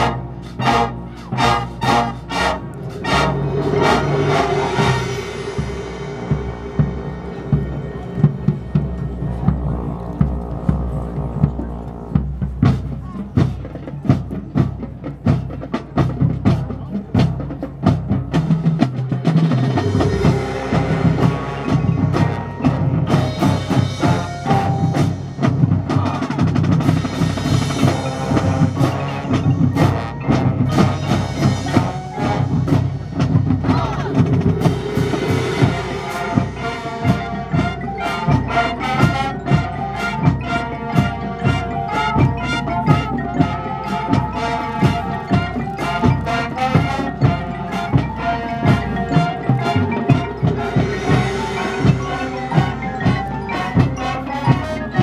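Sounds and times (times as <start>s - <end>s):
drum strokes: 0.0s - 55.0s
marching band playing: 0.0s - 55.0s.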